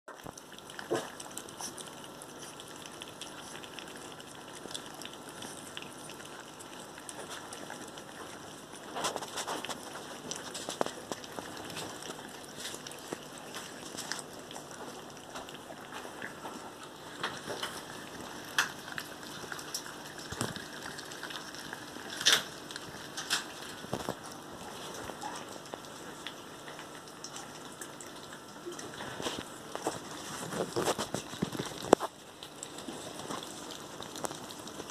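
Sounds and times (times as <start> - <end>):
puppies chewing and lapping: 0.1 - 34.9.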